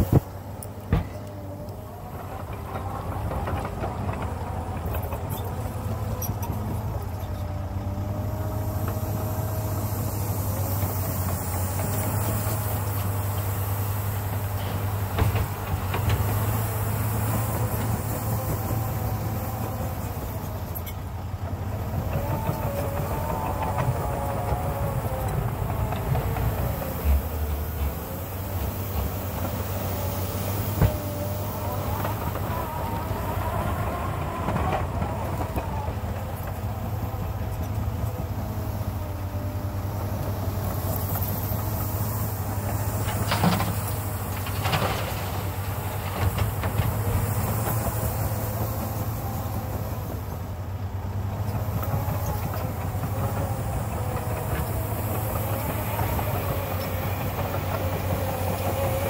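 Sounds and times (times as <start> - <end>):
diesel engine running under load: 0.0 - 59.0.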